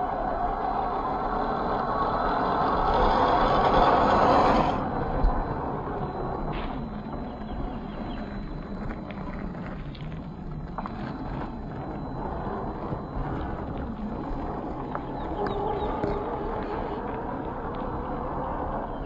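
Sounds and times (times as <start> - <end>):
rc car drivetrain hum: 0.0 - 19.0.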